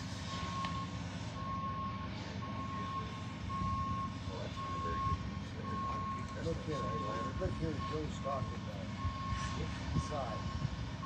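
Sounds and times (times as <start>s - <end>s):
engine rumble: 0.0s - 11.0s
back-up alarm beeping: 0.3s - 11.0s.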